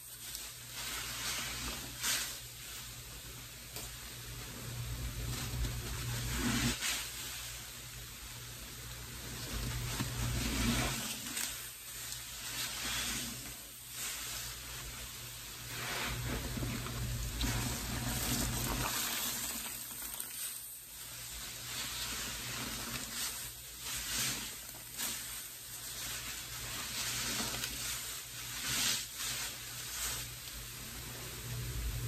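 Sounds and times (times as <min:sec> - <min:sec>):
sponge squeezed in sudsy water: 0:00.0 - 0:02.5, 0:04.6 - 0:07.5, 0:09.2 - 0:30.4
foam sizzling and crackling: 0:00.0 - 0:32.0.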